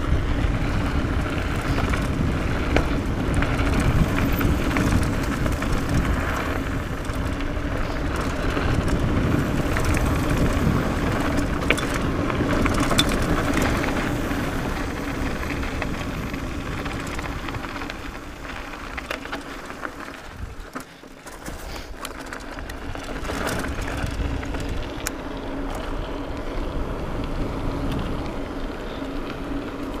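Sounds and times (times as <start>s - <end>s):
wind rushing over microphone: 0.0s - 20.7s, 21.4s - 30.0s
bike clicks and rattles: 0.0s - 30.0s
bike tyres humming on dirt: 0.0s - 30.0s.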